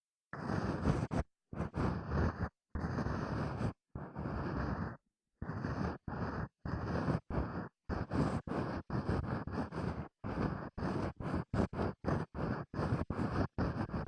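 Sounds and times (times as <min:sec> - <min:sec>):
scratchy ear-cleaning strokes: 0:00.4 - 0:14.0.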